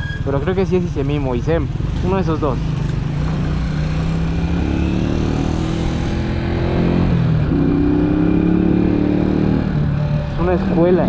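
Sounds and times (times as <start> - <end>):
motorcycle engine revving: 0.3 - 11.0.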